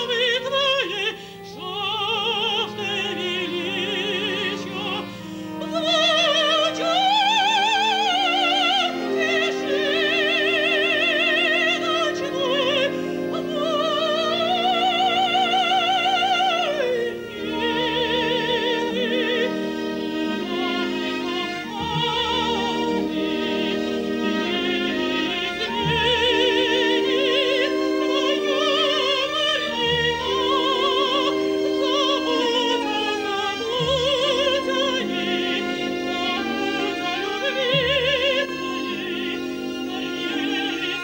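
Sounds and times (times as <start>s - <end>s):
woman singing operatically: 0.0s - 20.9s, 21.5s - 41.0s
instrumental accompaniment: 0.0s - 41.0s.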